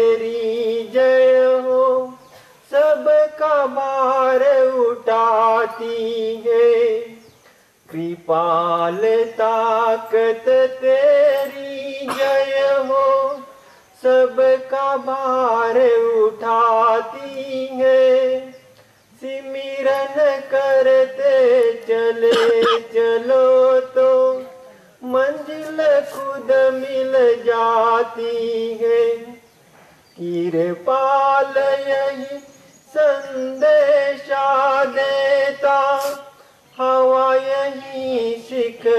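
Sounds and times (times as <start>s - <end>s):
person singing devotional song: 0.0s - 38.9s.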